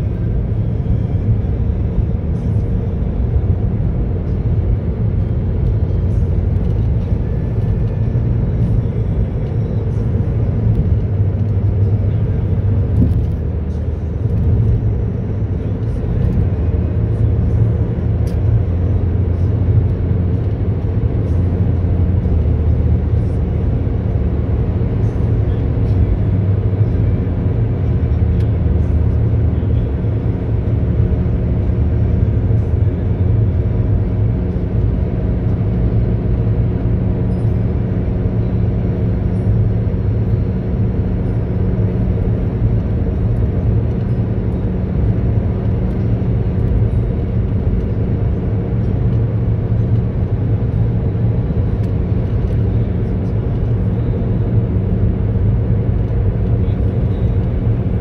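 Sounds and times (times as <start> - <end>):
car cabin road and engine noise: 0.0 - 58.0.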